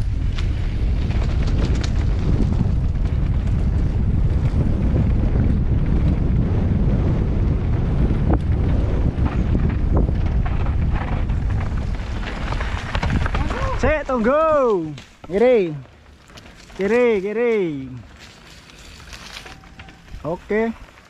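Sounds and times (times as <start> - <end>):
bike knocks and rattles: 0.0 - 17.3
wind buffeting microphone: 0.0 - 21.0.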